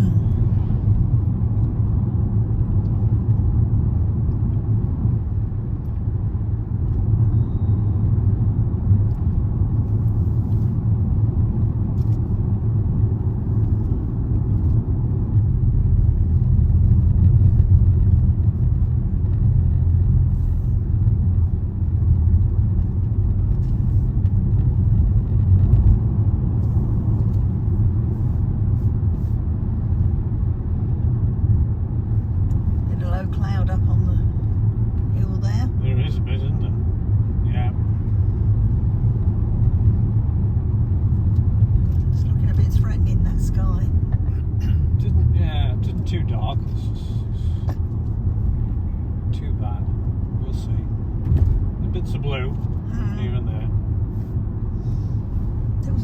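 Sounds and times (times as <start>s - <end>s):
car cabin road and engine rumble: 0.0s - 56.0s.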